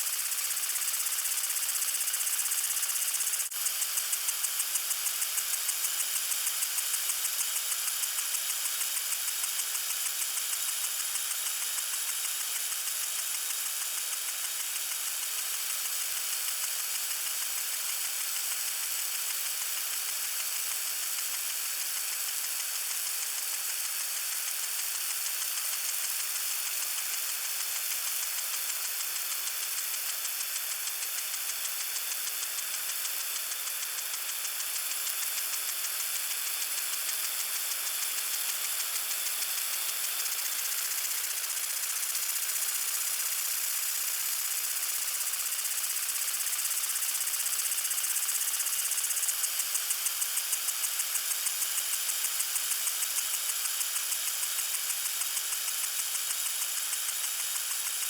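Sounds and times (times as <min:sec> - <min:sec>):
lawn sprinkler spraying water: 0:00.0 - 0:58.0.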